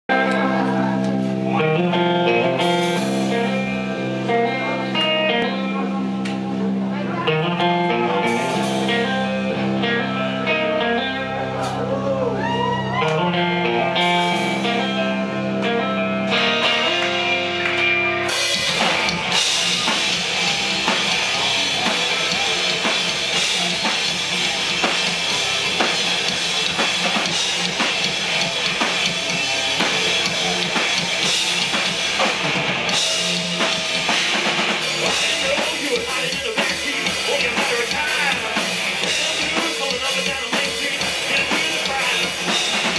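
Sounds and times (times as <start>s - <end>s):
ringing electric guitar chords: 0.0s - 42.9s
live rock band playing: 0.1s - 42.9s.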